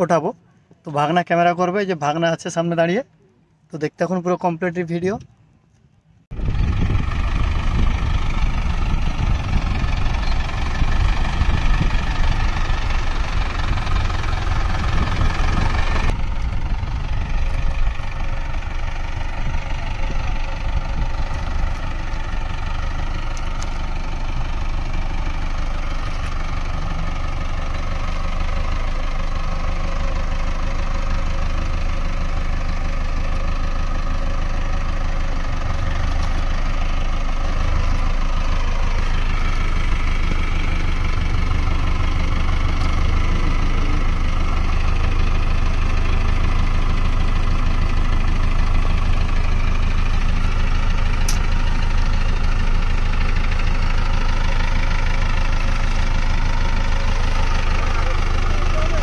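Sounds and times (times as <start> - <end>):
tractor diesel engine running: 6.2 - 59.0.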